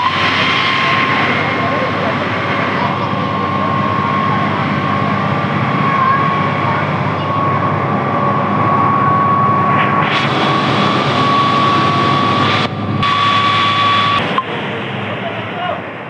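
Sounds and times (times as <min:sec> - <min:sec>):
fire pump engine whining: 0:00.0 - 0:16.0.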